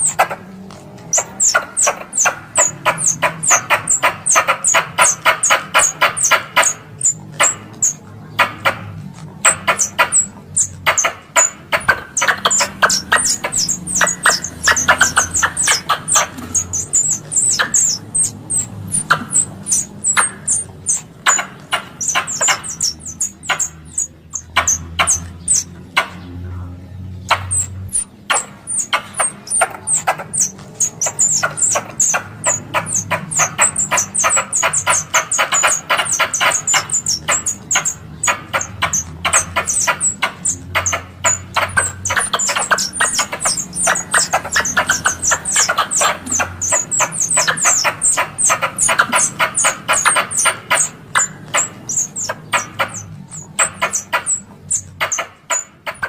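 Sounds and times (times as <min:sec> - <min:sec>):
squirrel chattering: 0:00.0 - 0:56.0.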